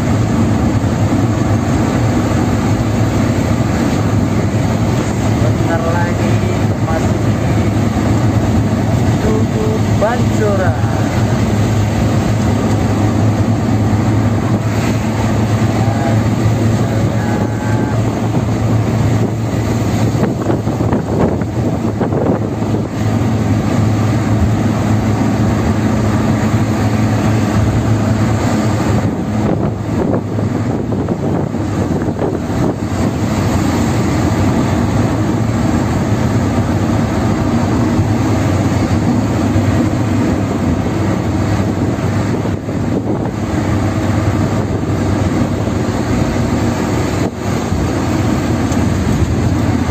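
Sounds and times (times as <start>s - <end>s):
car engine and tyre drone: 0.0s - 49.9s.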